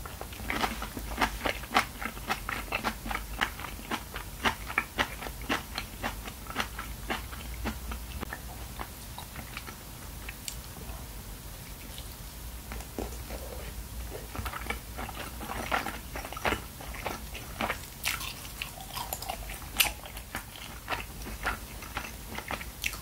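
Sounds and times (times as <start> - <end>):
chewing with mouth clicks: 0.2 - 10.9, 11.6 - 23.0.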